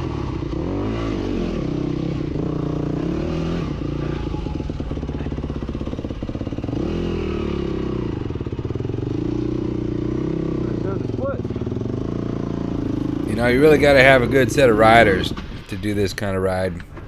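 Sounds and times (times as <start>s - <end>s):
dirt bike engine revving: 0.0s - 16.4s.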